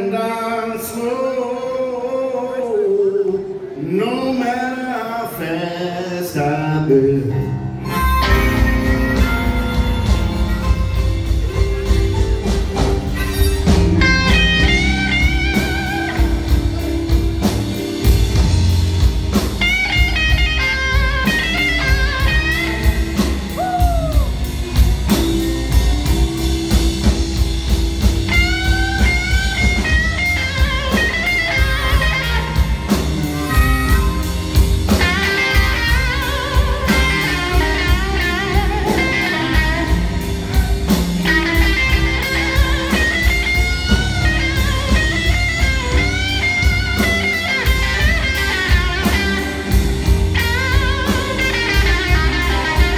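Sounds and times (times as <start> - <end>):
drums: 0.0 - 52.9
piano: 0.0 - 52.9
electric guitar: 5.4 - 52.9
upright bass: 7.0 - 52.9
lead line with bent notes: 7.4 - 52.9.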